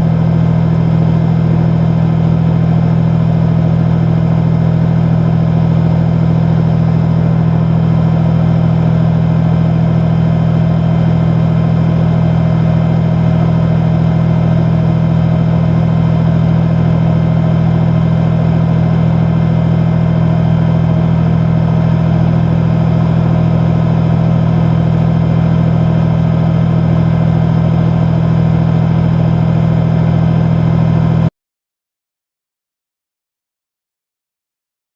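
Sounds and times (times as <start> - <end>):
diesel engine idling: 0.0 - 31.2.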